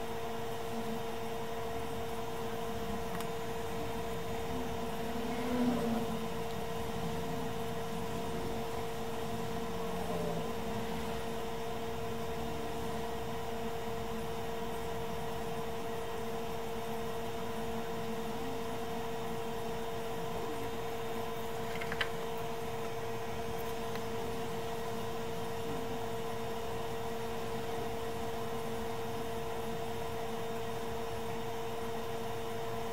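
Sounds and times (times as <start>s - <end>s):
small fan motor whirring: 0.0s - 32.9s.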